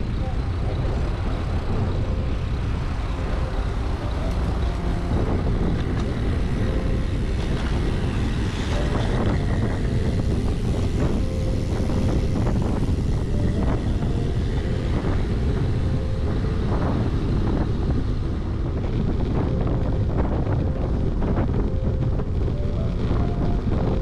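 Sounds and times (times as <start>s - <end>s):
bicycle road noise: 0.0s - 24.0s
wind rumble on microphone: 0.0s - 24.0s.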